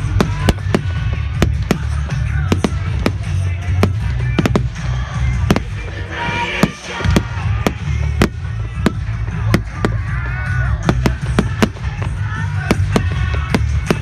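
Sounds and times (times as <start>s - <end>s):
fireworks bangs: 0.0s - 14.0s
music with heavy low beat: 0.0s - 14.0s.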